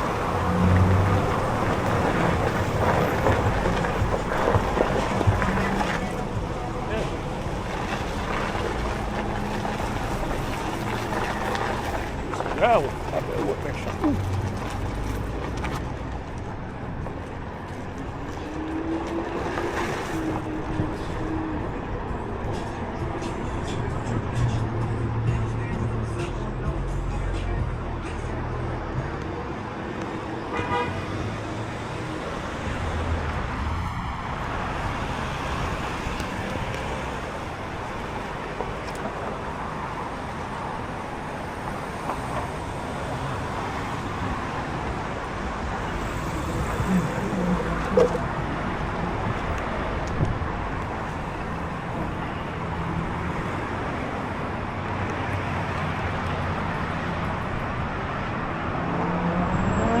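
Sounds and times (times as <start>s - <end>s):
cars passing: 0.0s - 60.0s.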